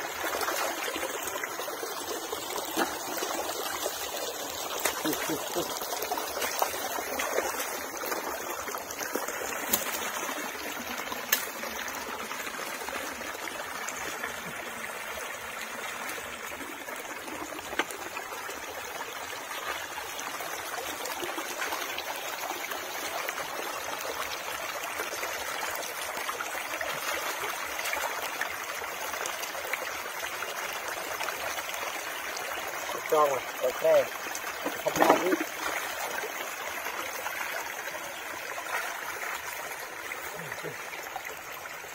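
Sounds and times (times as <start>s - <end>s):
stream water flowing: 0.0s - 41.9s.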